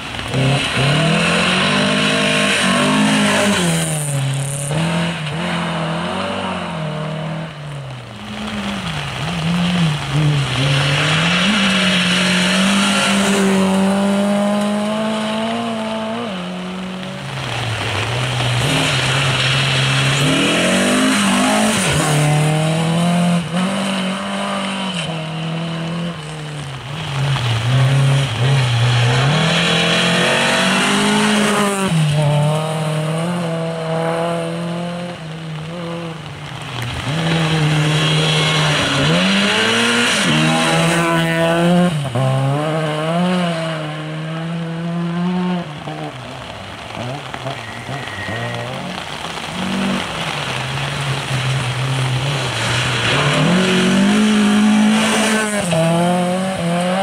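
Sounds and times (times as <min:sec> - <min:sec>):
tyres hissing on wet gravel: 0:00.0 - 0:43.8, 0:44.5 - 0:57.0
rally car engines at full throttle: 0:00.0 - 0:57.0.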